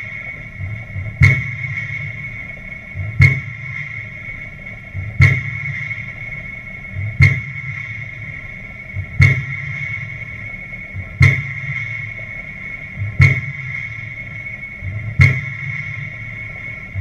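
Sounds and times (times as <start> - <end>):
steady hum of fixed tones: 0.0 - 17.0.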